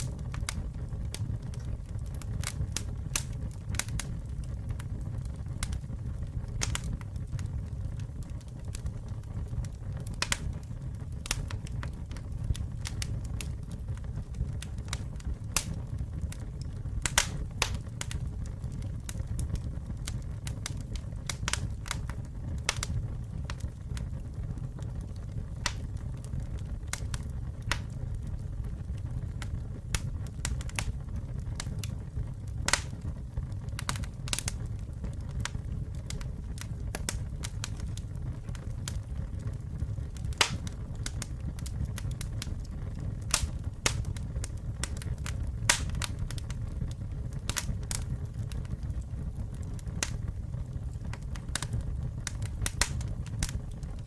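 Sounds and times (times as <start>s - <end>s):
campfire crackling and popping: 0.0s - 54.0s
low fire rumble: 0.0s - 54.0s.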